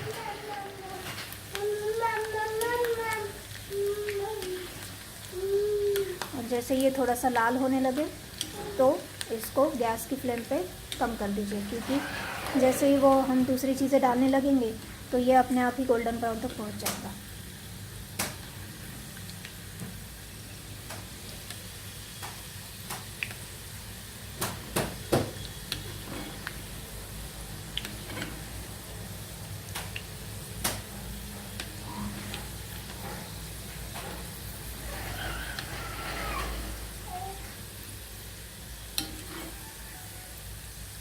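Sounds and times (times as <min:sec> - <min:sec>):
garlic sizzling in oil: 0:00.0 - 0:41.0.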